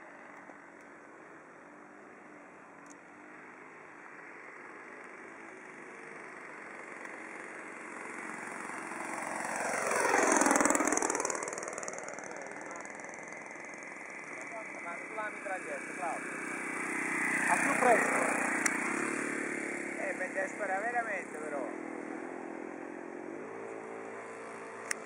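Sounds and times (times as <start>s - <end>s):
model airplane engine droning: 0.0s - 25.0s.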